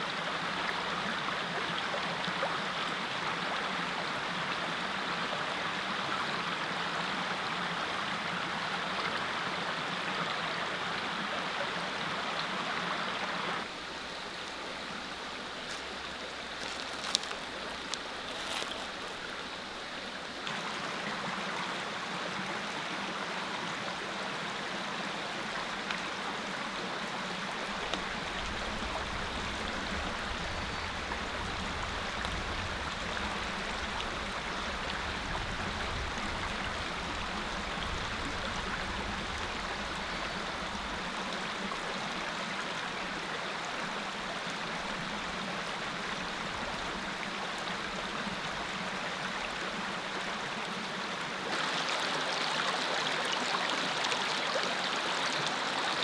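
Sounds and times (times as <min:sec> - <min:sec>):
creek running over rocks: 0:00.0 - 0:56.0.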